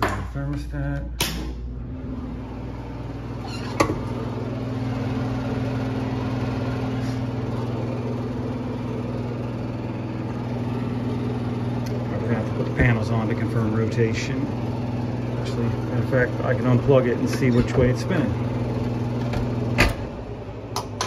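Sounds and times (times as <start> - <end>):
blower motor humming: 0.0 - 21.0.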